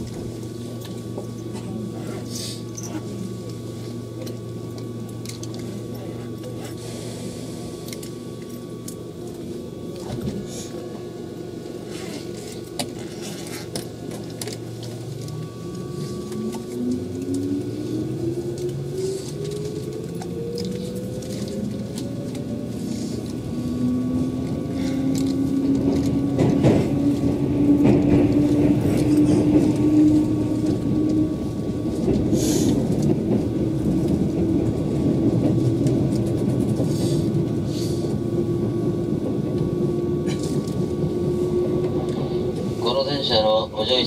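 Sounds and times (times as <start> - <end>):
train motor whine: 0.0 - 44.0
train running rumble: 0.0 - 44.0.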